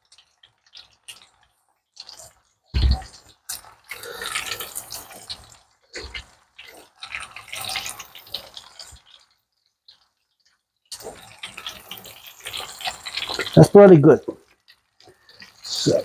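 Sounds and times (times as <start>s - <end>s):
chicken sizzling in frying oil: 0.0s - 16.0s.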